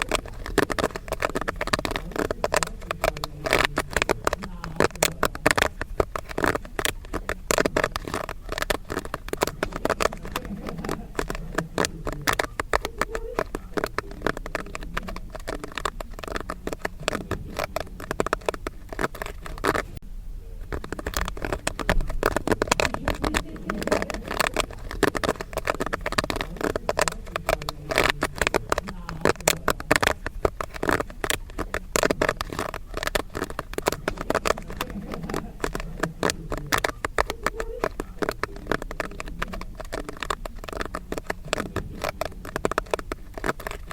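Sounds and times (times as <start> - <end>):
popcorn popping: 0.0 - 43.9.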